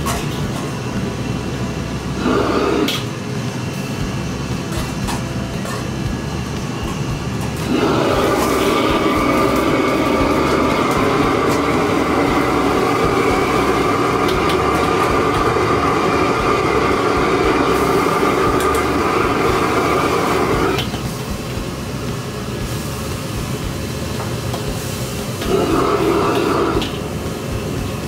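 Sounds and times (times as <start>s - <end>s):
wok burner roaring: 0.0s - 28.0s.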